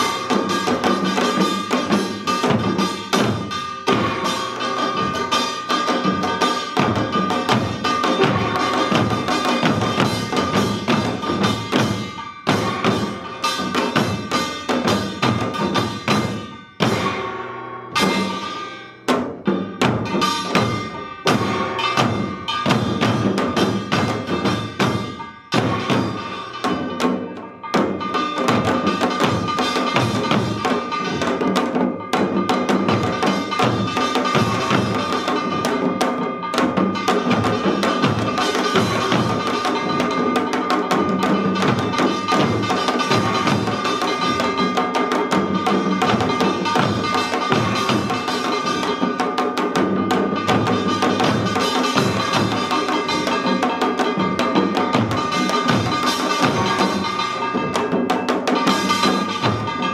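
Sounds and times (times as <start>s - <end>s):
hourglass drums playing fast rhythm: 0.0s - 59.9s.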